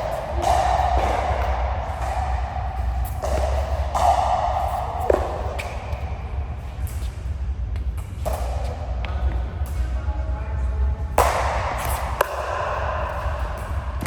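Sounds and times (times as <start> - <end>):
pickleball struck by paddles: 0.0 - 9.9, 11.2 - 14.0
murmur of large indoor hall: 0.0 - 14.0
steady hum: 0.0 - 14.0.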